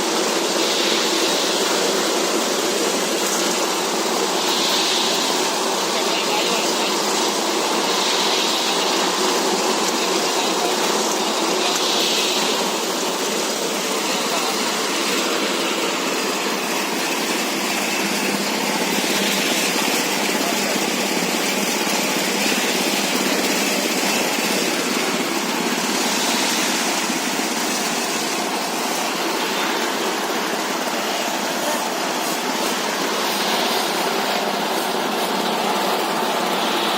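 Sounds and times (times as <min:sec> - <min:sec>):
diesel engine driving pellet mill: 0:00.0 - 0:36.9.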